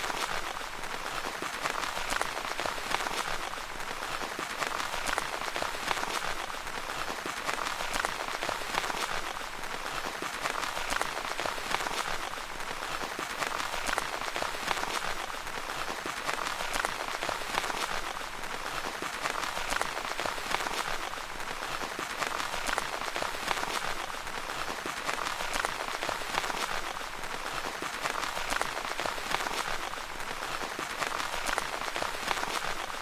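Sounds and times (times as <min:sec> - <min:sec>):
rain pattering on tent fabric: 0:00.0 - 0:33.0.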